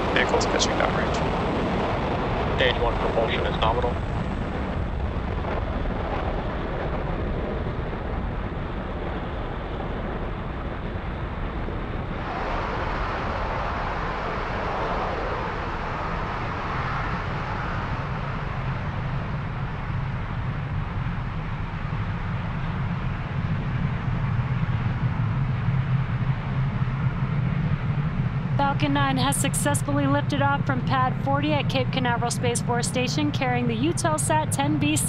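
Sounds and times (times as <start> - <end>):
rocket engines deep rumble: 0.0 - 35.0.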